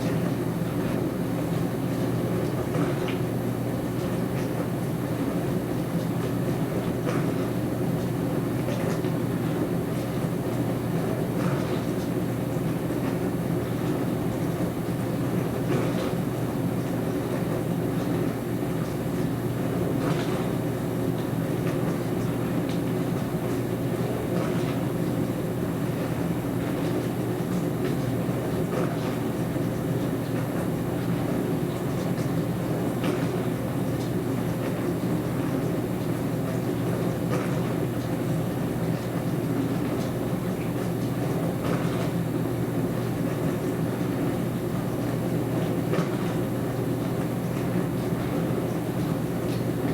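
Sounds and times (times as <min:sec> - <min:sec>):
dishwasher humming: 0:00.0 - 0:49.9.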